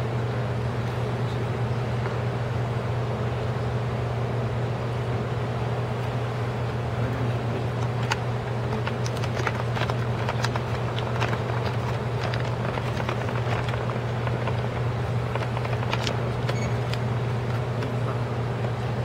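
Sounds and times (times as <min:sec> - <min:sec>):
low hum of hall: 0:00.0 - 0:19.0.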